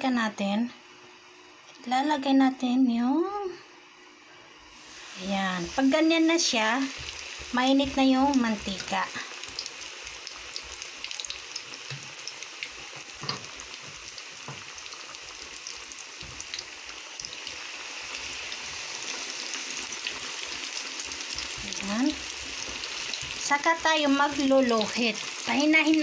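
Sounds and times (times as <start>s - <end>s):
chicken deep-frying in oil: 4.7s - 26.0s.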